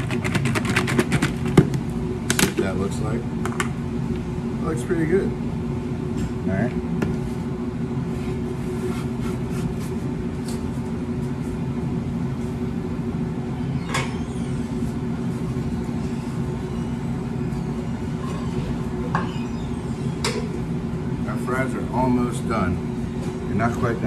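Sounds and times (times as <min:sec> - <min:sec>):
kitchen machine hum: 0:00.0 - 0:24.0.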